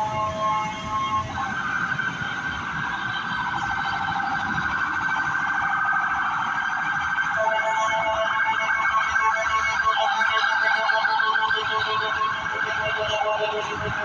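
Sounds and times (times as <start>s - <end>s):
fire engine siren yelping: 0.0s - 14.0s.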